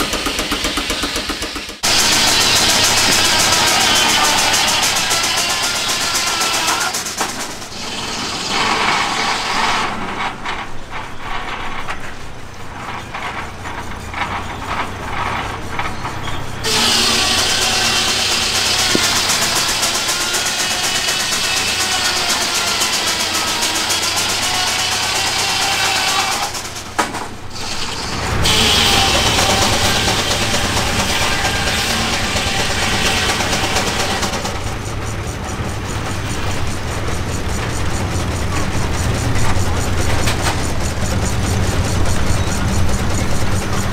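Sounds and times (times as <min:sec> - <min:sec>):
engine humming: 0:00.0 - 0:43.9
saw blade cutting log: 0:00.0 - 0:43.9.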